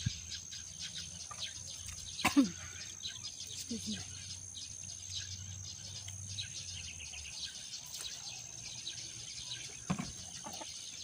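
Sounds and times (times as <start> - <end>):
birds chirping: 0.0 - 11.0
high insect drone: 0.0 - 11.0.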